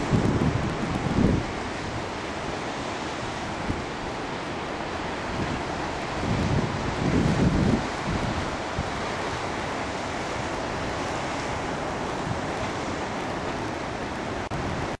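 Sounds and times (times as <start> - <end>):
waves washing over rocks: 0.0 - 15.0
wind on microphone: 0.0 - 15.0.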